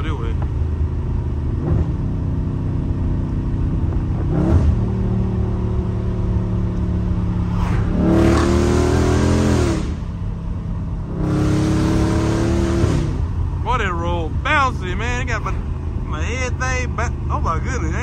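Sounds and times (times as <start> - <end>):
car exhaust revving: 0.0 - 18.0.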